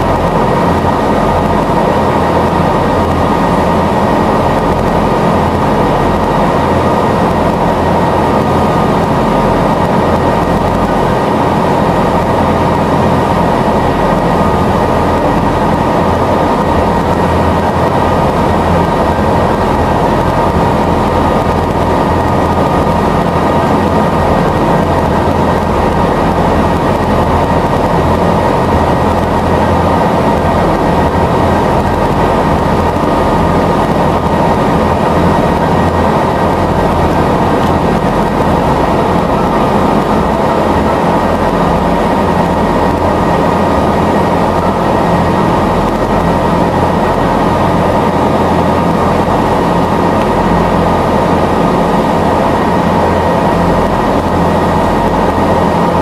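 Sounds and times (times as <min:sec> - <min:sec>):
ferry engine drone: 0:00.0 - 0:56.0
steady high hum: 0:00.0 - 0:56.0.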